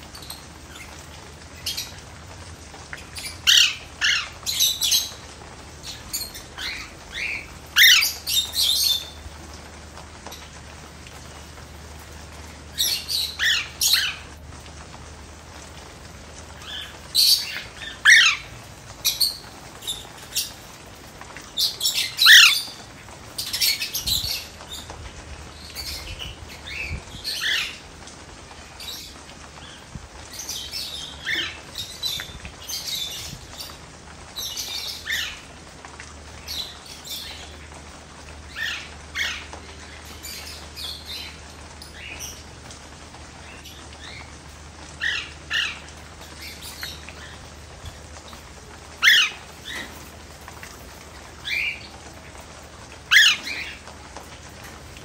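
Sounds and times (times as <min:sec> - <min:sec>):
light rain hiss: 0:00.0 - 0:55.0
birds chirping and squawking: 0:00.1 - 0:09.3, 0:12.4 - 0:14.4, 0:15.6 - 0:35.6, 0:36.3 - 0:42.5, 0:43.4 - 0:54.8.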